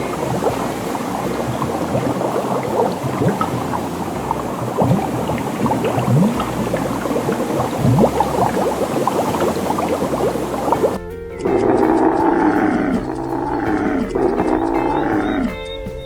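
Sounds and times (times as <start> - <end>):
water bubbling and gurgling: 0.0 - 15.7.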